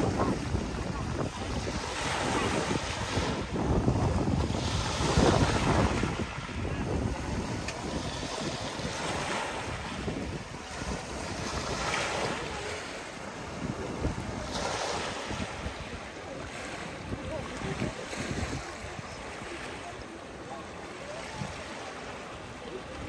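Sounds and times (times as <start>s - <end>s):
wind buffeting microphone: 0.0s - 19.5s.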